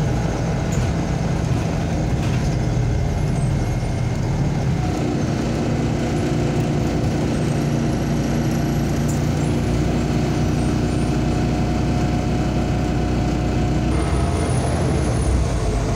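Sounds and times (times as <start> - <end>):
bus engine idling: 0.0 - 15.9.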